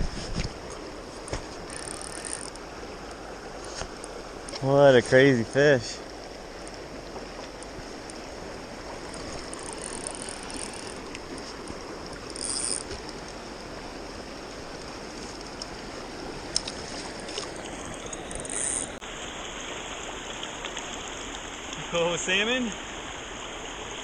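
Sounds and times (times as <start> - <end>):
river water running: 0.0 - 24.0.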